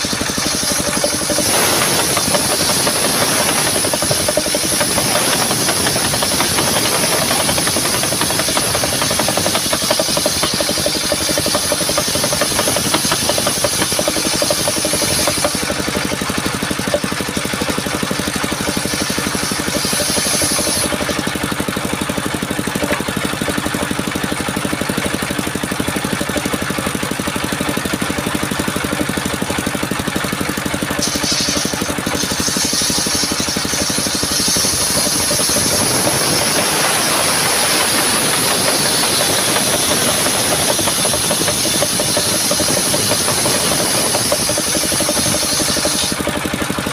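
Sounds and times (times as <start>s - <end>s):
saw blade hissing through wood: 0.0s - 22.4s, 27.8s - 46.8s
engine droning: 0.0s - 46.9s.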